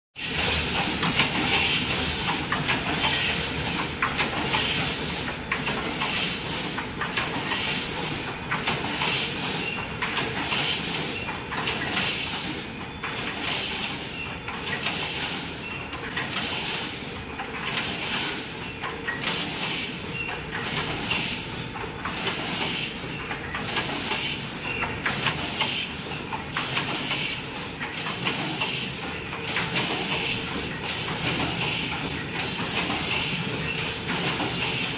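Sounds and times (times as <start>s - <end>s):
mechanical clatter: 0.2s - 34.9s.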